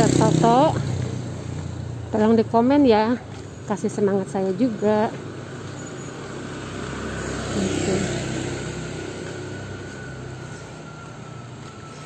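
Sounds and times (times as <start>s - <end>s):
motor scooter passing: 0.0s - 12.0s.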